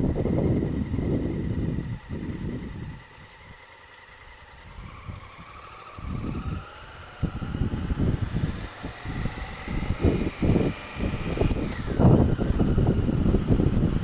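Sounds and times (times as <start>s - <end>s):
wind buffeting on microphone: 0.0s - 3.6s, 4.5s - 14.0s
motorcycle engine pulling away: 0.0s - 14.0s.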